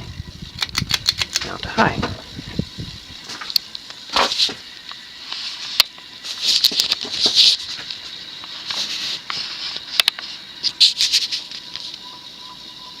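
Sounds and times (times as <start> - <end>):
ceiling fan bearings clicking and rattling: 0.0 - 13.0
high-pitched fan hum: 0.0 - 13.0.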